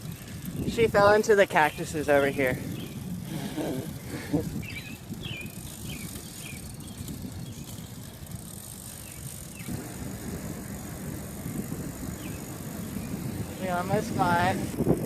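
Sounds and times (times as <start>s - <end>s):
bicycle tyres rumbling: 0.0s - 15.0s.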